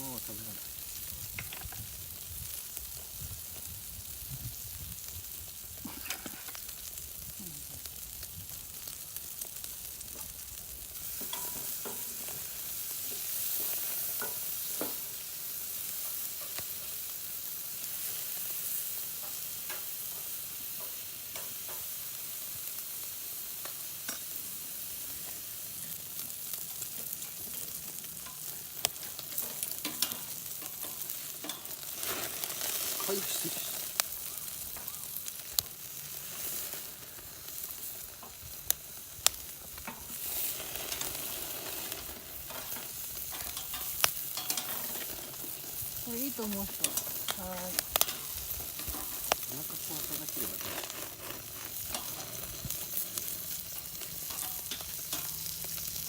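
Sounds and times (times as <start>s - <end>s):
meat sizzling over fire: 0.0s - 56.0s.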